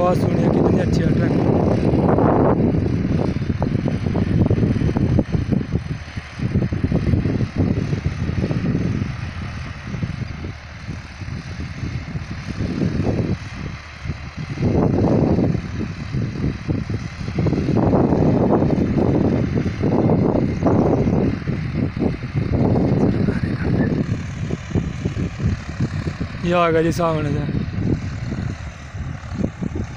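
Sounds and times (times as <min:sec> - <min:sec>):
distant tractor engine droning: 0:00.0 - 0:29.9
wind buffeting microphone: 0:00.0 - 0:29.9.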